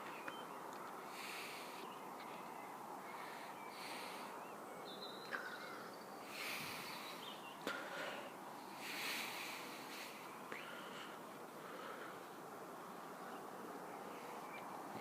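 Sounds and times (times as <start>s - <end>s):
faint bird calls: 0.0s - 15.0s.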